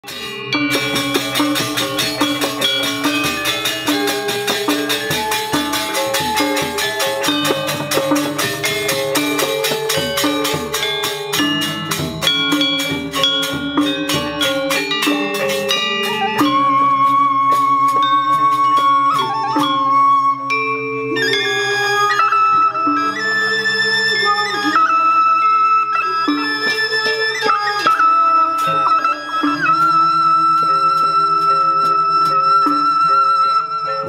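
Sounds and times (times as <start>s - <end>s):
metallophones struck with mallets: 0.0s - 34.0s.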